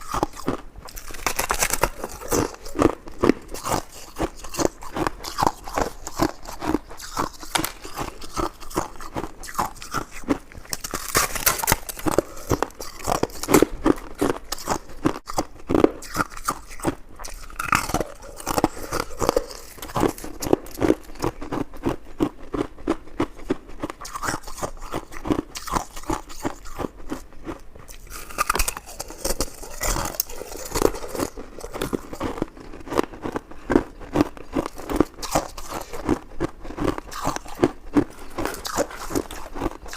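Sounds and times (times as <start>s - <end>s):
person chewing wetly: 0.0s - 39.9s.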